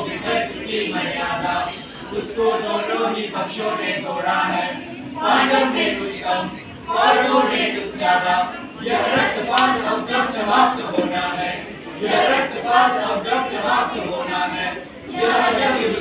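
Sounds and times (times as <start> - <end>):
group singing in chorus: 0.0 - 16.0.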